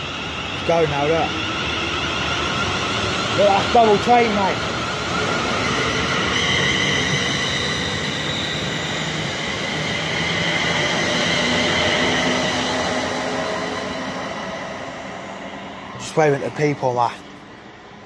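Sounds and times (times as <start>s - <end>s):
train wheels rumbling on rails: 0.0s - 17.6s
high whining tones: 0.0s - 18.0s.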